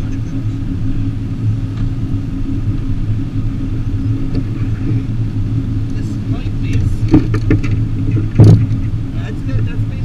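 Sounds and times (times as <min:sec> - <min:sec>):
small outboard motor idling: 0:00.0 - 0:10.0.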